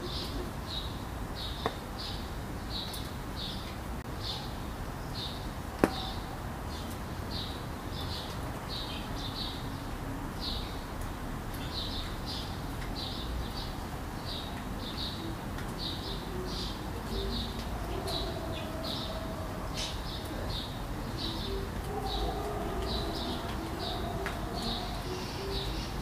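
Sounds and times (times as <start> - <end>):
low background noise: 0.0 - 26.0
small birds chirping: 0.0 - 26.0.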